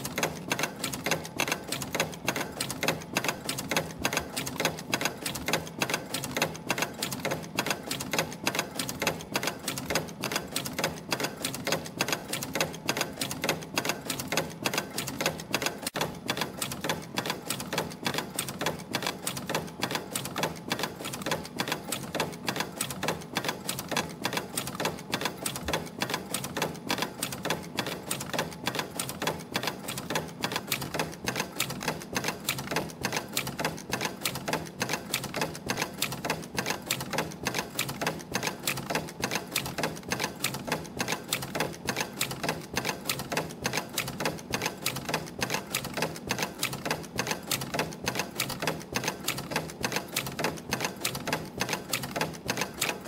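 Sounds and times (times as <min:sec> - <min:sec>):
spring machine clicking and clattering: 0:00.0 - 0:53.0.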